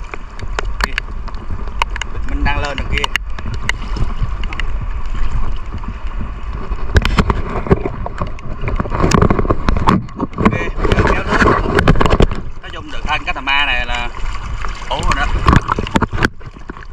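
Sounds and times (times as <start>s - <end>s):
waves slapping and splashing: 0.0s - 16.9s
wind buffeting microphone: 0.0s - 16.9s.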